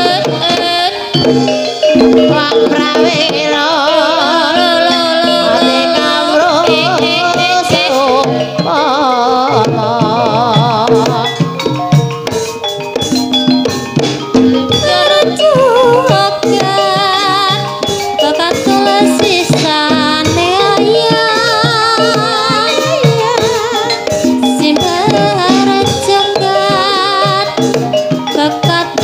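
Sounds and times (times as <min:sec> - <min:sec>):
hand drums: 0:00.0 - 0:29.0
wavering melody with vibrato: 0:00.0 - 0:29.0.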